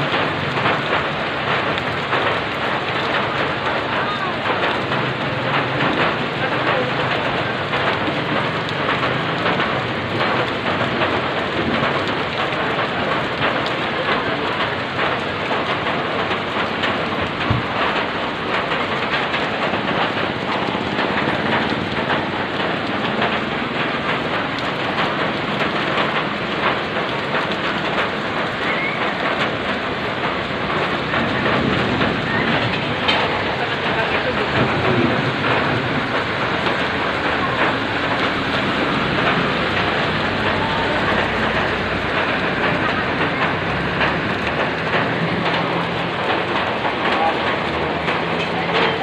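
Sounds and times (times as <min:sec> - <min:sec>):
heavy rain on wet street: 0:00.0 - 0:49.0.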